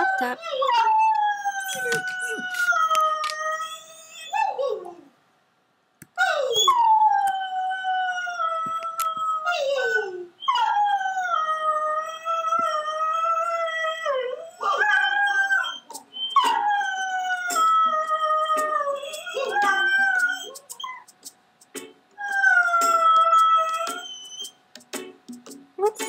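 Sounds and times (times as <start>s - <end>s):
dog howling through laptop speaker: 0.0s - 5.1s, 6.2s - 21.1s, 22.2s - 24.6s.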